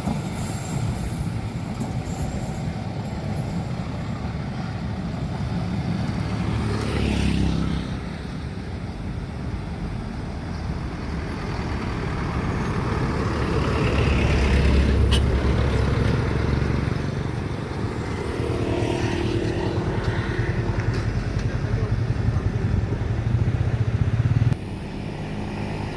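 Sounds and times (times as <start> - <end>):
vehicle engines rumbling past: 5.0 - 25.9.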